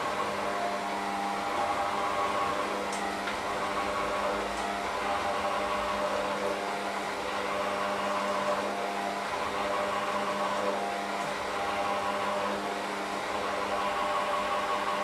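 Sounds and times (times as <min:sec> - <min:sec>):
electric hand mixer motor hum: 0:00.0 - 0:15.0.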